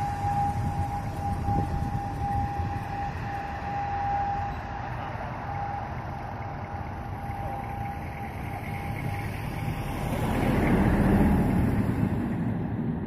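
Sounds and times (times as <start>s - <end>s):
high engine whine: 0.0s - 13.0s
jet airliner passing overhead: 0.0s - 13.0s.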